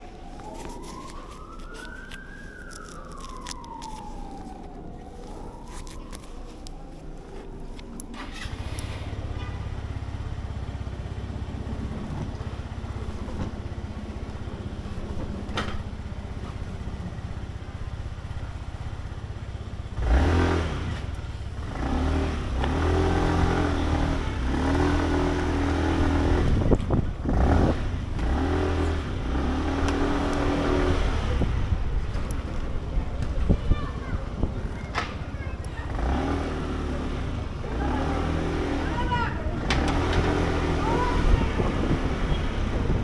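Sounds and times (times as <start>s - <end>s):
scooter engine idling and revving: 7.2s - 43.0s.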